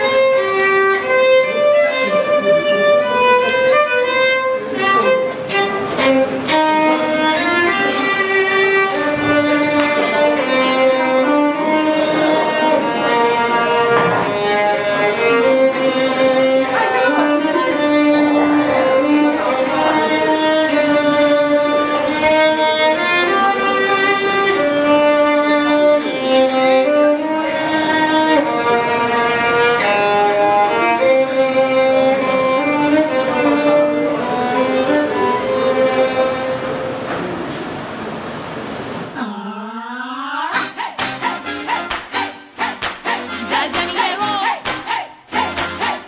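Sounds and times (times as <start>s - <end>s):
violin melody: 0.0s - 37.4s, 40.6s - 46.0s.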